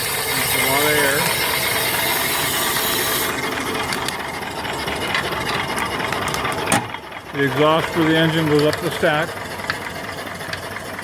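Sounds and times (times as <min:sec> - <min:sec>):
small steam engine running: 0:00.0 - 0:11.0.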